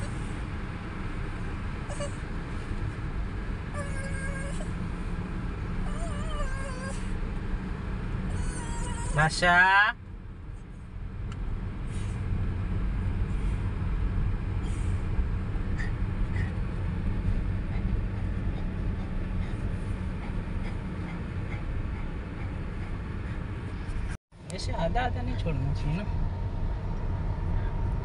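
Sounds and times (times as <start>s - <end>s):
car engine and tyres rumble: 0.0s - 28.0s.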